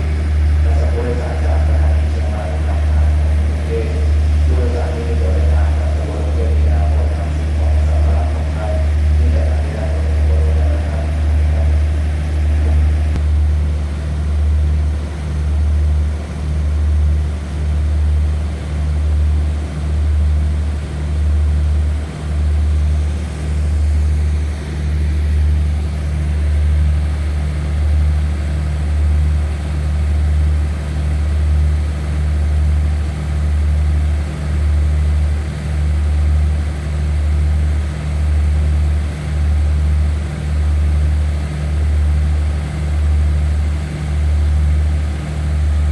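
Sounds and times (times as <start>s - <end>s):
diesel train engine idling: 0.0s - 45.9s.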